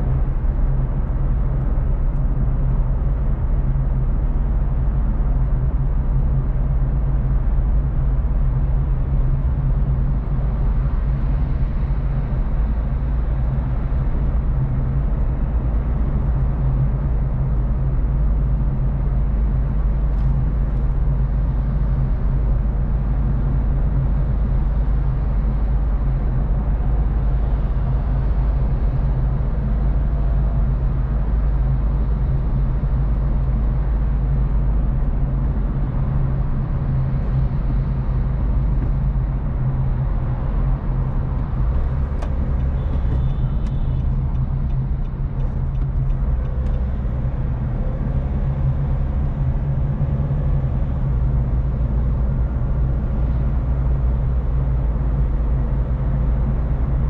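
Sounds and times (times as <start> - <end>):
car engine hum: 0.0 - 57.0
tyre and road rumble: 8.6 - 57.0.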